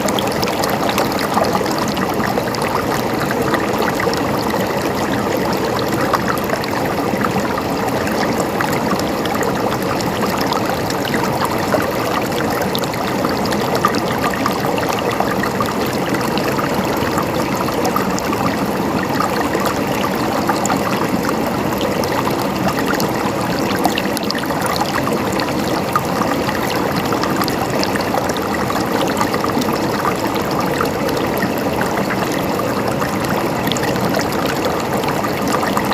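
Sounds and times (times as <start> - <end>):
stream trickling: 0.0 - 35.9.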